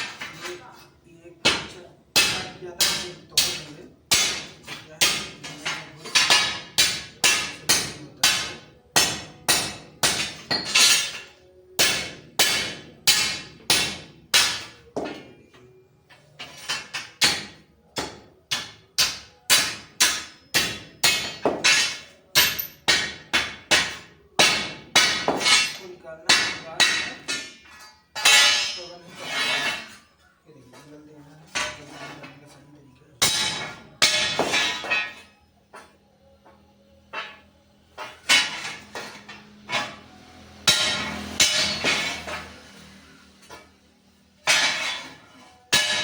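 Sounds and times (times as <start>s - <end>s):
hammer striking steel: 1.4s - 15.4s, 16.4s - 30.0s, 33.2s - 43.8s, 44.4s - 46.0s.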